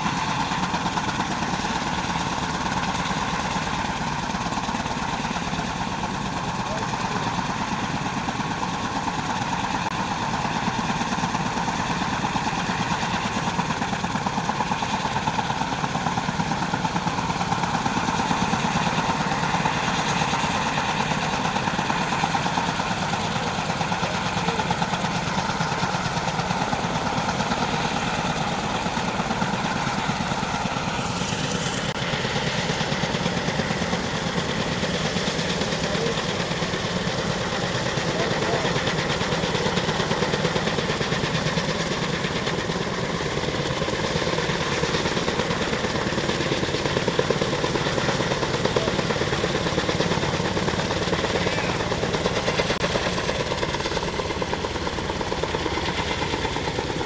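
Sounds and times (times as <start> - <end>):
helicopter rotors chopping: 0.0 - 57.0
turbine engine whine: 0.0 - 57.0.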